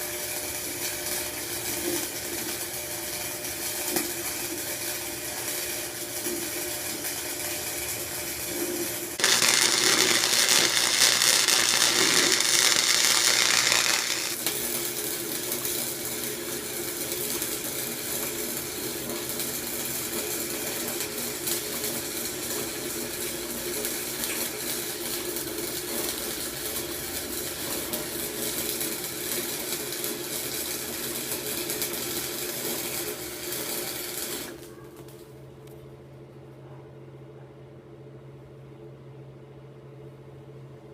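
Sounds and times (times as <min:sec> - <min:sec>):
welder arc crackling and hissing: 0:00.0 - 0:34.7.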